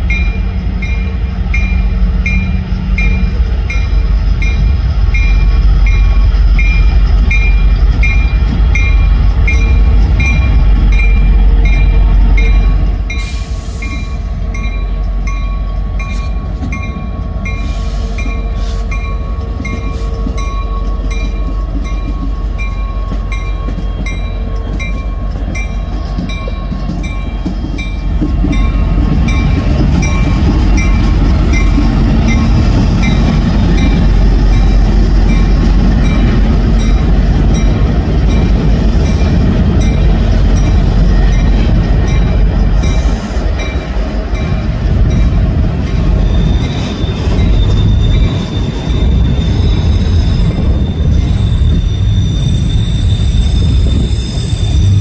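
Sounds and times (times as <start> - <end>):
crossing bell dinging: 0.0 - 45.7
freight train rumbling: 0.0 - 55.0.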